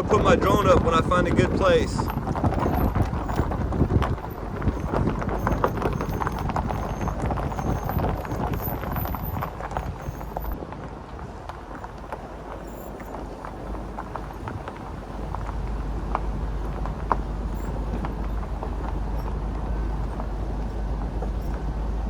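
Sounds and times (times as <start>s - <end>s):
tyres crackling on gravel: 0.0s - 22.0s
vehicle rumbling on unpaved road: 0.0s - 22.0s.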